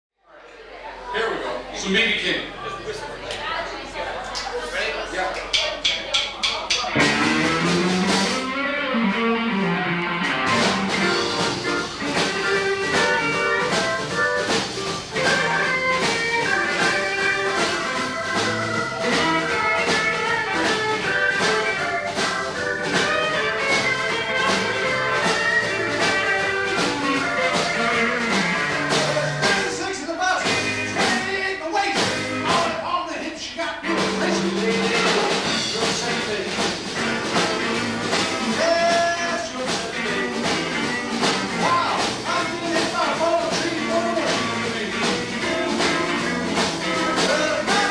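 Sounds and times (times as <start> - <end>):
steady drum beat: 5.3 - 33.1, 33.8 - 47.9
electric guitars: 6.8 - 32.8, 33.8 - 47.9.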